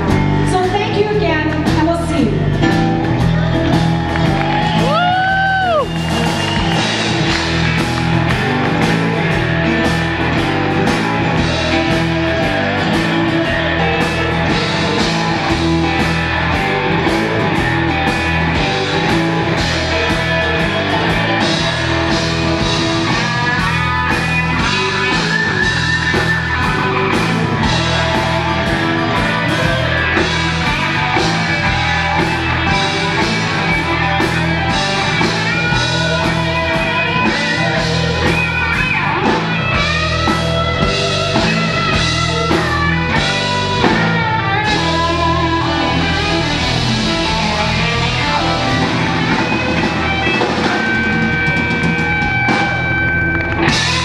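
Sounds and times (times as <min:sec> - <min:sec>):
blues band playing: 0:00.0 - 0:54.0
electric guitar lead: 0:00.0 - 0:54.0.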